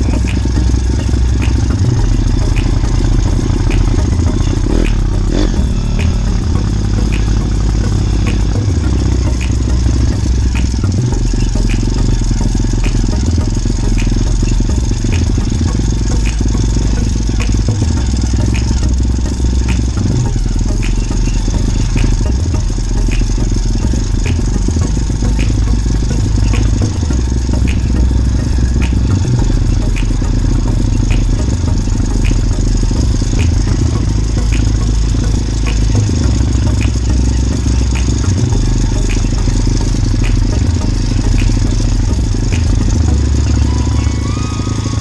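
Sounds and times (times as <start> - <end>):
light repeating tick: 0.0 - 45.0
motorbike engine running: 0.0 - 45.0.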